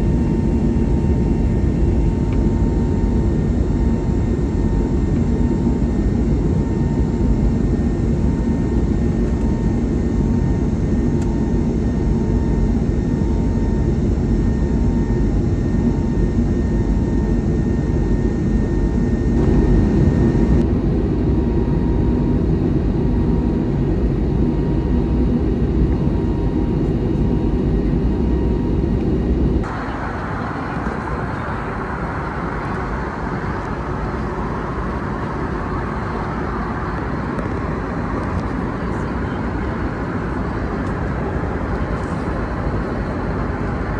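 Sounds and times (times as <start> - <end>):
jet engine drone: 0.0 - 43.9
thin steady whine: 0.0 - 43.9.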